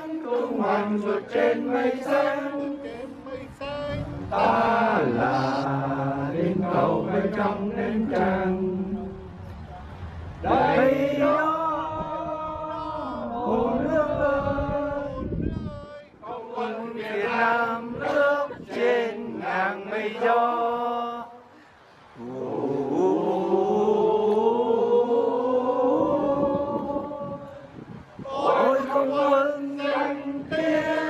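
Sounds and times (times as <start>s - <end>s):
voices chanting: 0.0s - 21.6s, 22.2s - 31.0s.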